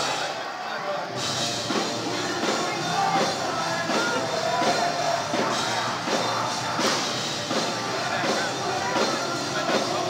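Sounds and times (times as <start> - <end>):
heavy metal band playing live: 0.0 - 10.0
person singing: 1.6 - 10.0.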